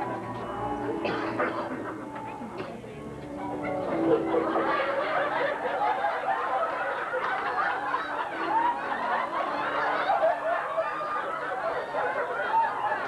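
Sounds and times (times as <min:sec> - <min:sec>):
audience laughing: 0:00.0 - 0:02.8, 0:03.5 - 0:13.0.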